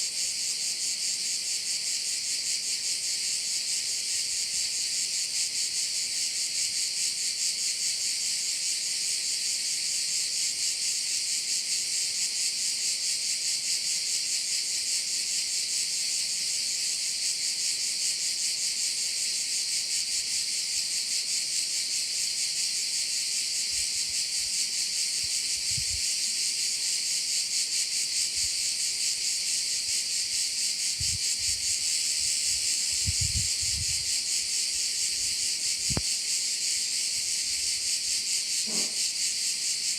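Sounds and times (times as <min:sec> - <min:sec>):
insects chorus buzzing: 0:00.0 - 0:39.9.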